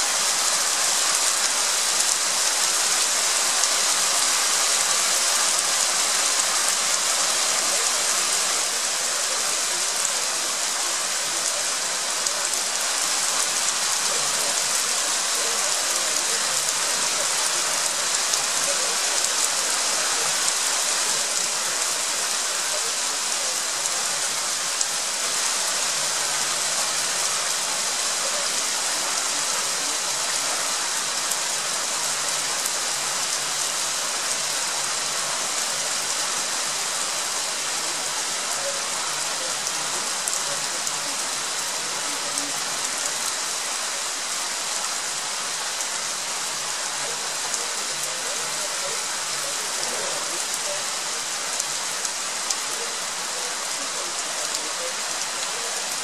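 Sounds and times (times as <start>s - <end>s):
heavy rain shower: 0.0s - 56.0s.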